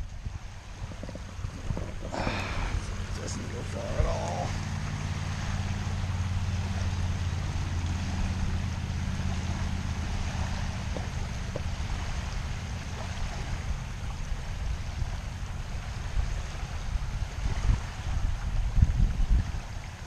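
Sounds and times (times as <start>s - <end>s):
small waves lapping on shore: 0.0s - 20.0s
wind rumble on microphone: 0.0s - 20.0s.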